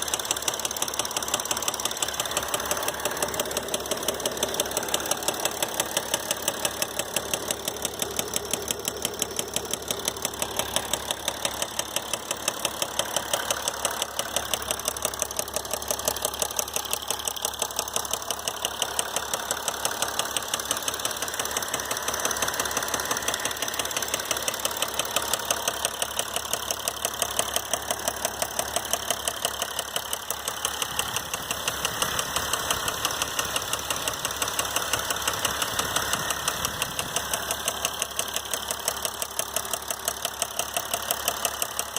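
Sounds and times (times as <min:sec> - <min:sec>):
diesel engine running: 0:00.0 - 0:41.9
sharp engine ticking: 0:00.0 - 0:41.9.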